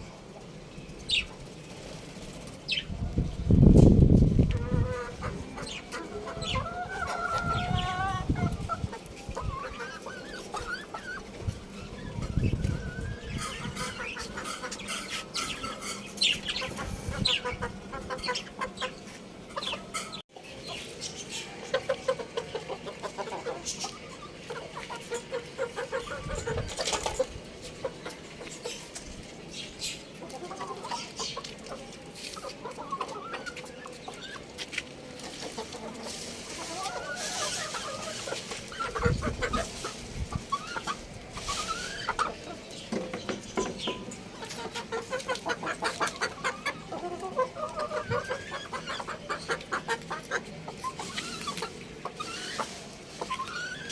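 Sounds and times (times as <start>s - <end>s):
chickens clucking and chirping: 0.0s - 53.9s.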